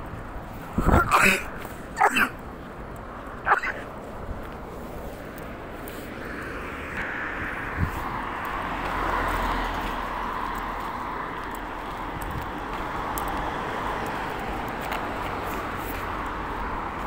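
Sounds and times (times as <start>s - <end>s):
passing vehicle: 0.0s - 17.0s.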